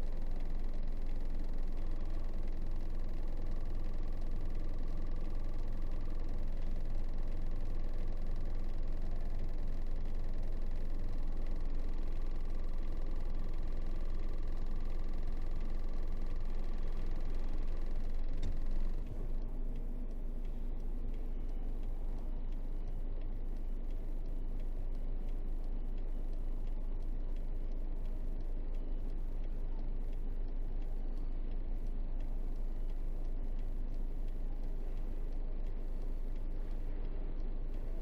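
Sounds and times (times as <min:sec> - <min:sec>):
truck diesel engine drone: 0:00.0 - 0:38.0.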